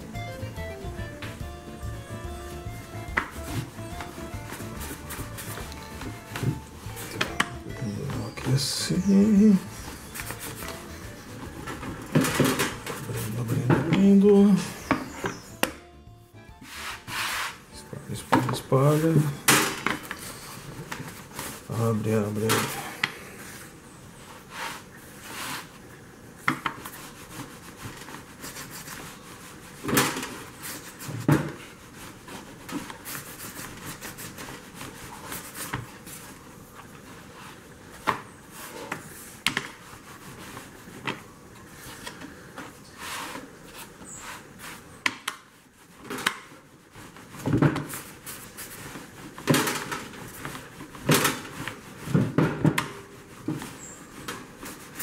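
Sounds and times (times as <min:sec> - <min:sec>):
rolling pin rubbing dough: 0:00.0 - 0:15.6, 0:16.5 - 0:55.0.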